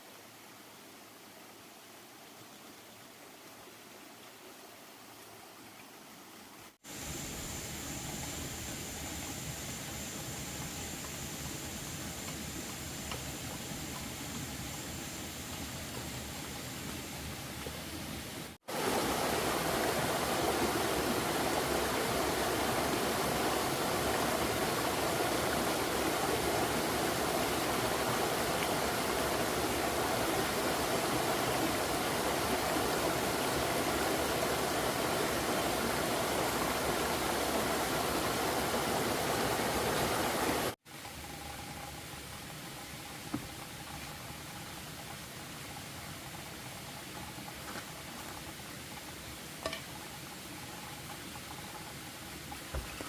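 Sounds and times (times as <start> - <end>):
flowing water rushing: 0.0 - 53.0.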